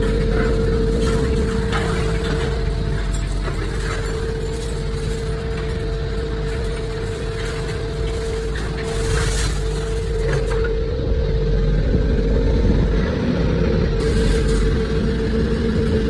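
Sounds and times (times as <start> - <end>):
hydraulic baler humming and rumbling: 0.0 - 16.0.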